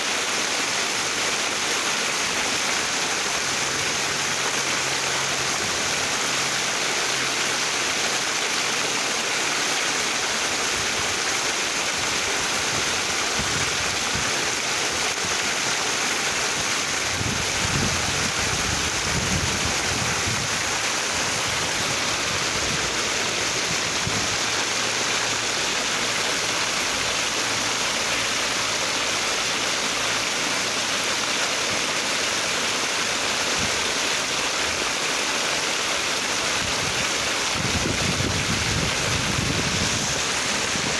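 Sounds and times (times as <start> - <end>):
water splashing into pool: 0.0 - 40.9.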